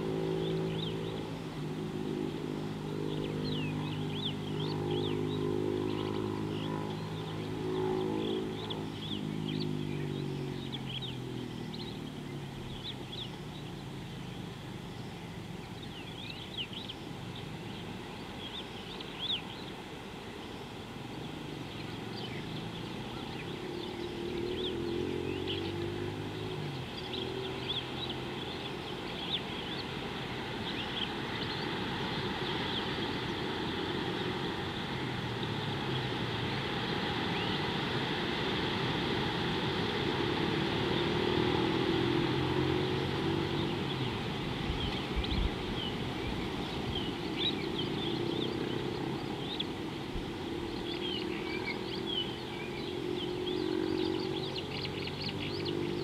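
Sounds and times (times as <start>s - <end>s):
distant engine humming: 0.0s - 56.0s
small birds chirping: 0.0s - 56.0s.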